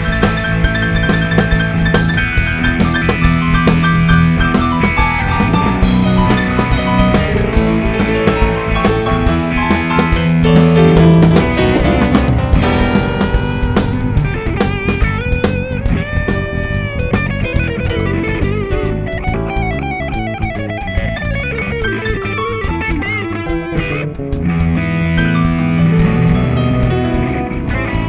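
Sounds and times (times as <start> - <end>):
bass guitar: 0.0 - 28.0
drum kit steady beat: 0.0 - 28.0
electric guitar lead melody: 0.0 - 28.0.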